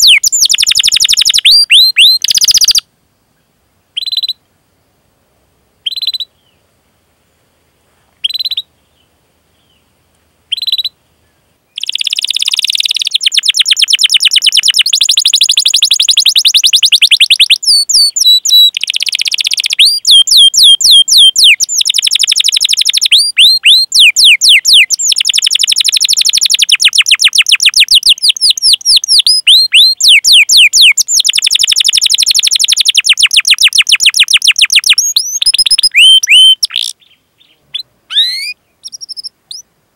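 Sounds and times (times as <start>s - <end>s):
canary singing trills: 0.0s - 2.9s, 4.0s - 4.4s, 5.8s - 6.6s, 8.2s - 9.8s, 10.5s - 11.0s, 11.7s - 39.7s.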